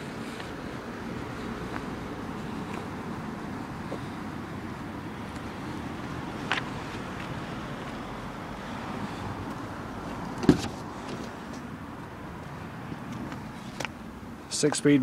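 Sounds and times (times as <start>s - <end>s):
outdoor wind noise: 0.0s - 15.0s.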